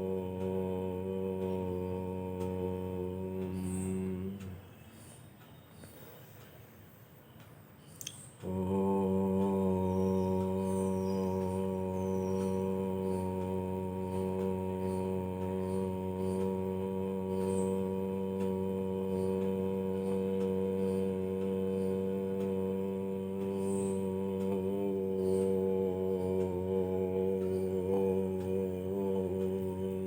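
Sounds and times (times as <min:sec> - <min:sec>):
person chanting low drone: 0:00.0 - 0:04.8, 0:08.4 - 0:30.0.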